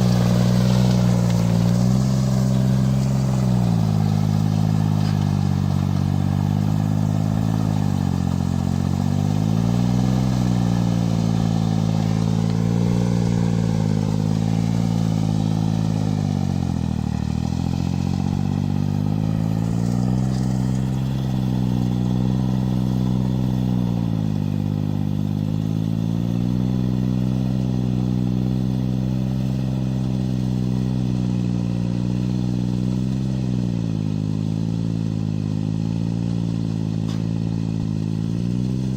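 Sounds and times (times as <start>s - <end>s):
tractor diesel engine working: 0.0s - 38.9s.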